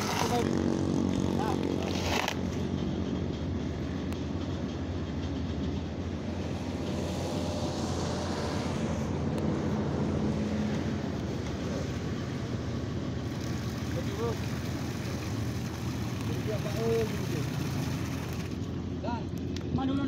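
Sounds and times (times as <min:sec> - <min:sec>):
boat engine droning: 0:00.0 - 0:19.6.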